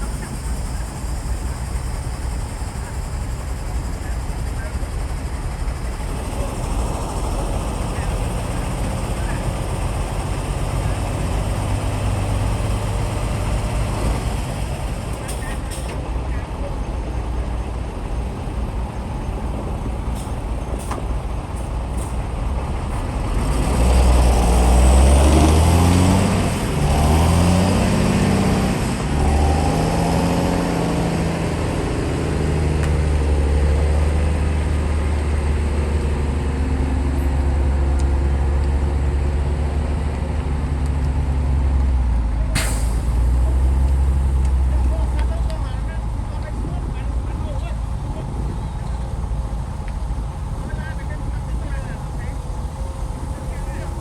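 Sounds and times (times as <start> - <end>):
heavy diesel engine revving: 0.0 - 54.0.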